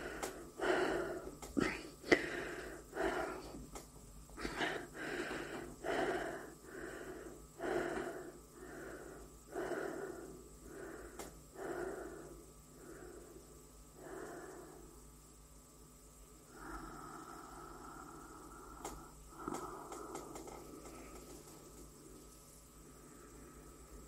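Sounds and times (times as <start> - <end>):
person breathing heavily: 0.0 - 15.4, 16.5 - 24.0
faint steady hum: 0.0 - 24.0.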